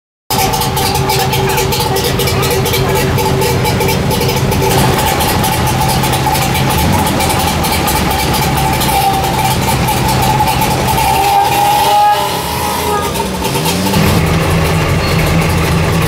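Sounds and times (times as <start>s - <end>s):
two-stroke engine idling: 0.3s - 16.0s.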